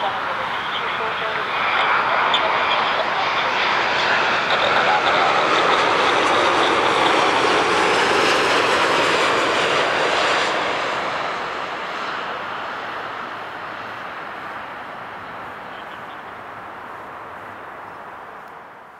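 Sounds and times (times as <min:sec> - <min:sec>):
jet engines roaring overhead: 0:00.0 - 0:18.9.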